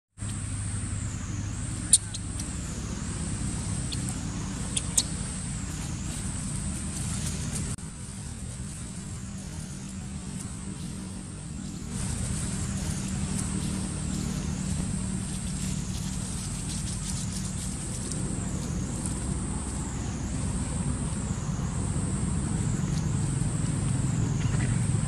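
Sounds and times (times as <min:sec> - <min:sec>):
steady low hum: 0:00.2 - 0:25.0.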